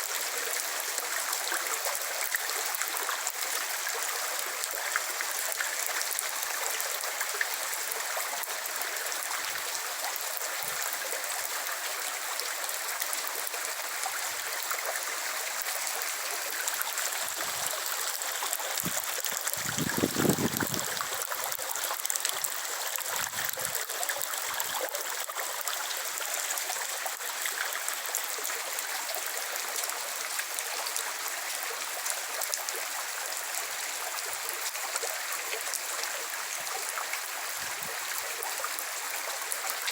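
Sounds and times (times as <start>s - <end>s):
steady rain falling: 0.0s - 39.8s
water trickling: 0.0s - 39.9s.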